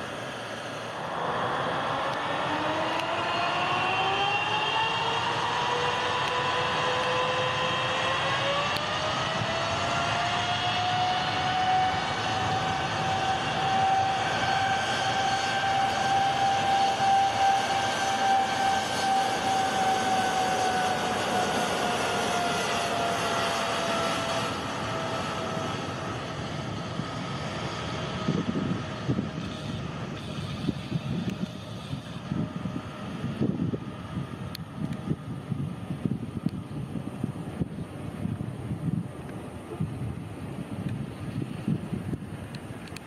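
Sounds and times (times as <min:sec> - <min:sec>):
jet engine roar: 0:00.0 - 0:43.0
whining fan tone: 0:00.0 - 0:43.0
wind buffeting microphone: 0:01.0 - 0:43.0.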